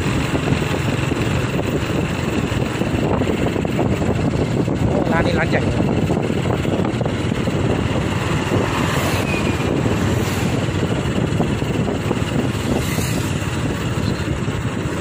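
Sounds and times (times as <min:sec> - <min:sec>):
vehicle running noise: 0:00.0 - 0:15.0
wind buffeting microphone: 0:00.0 - 0:15.0.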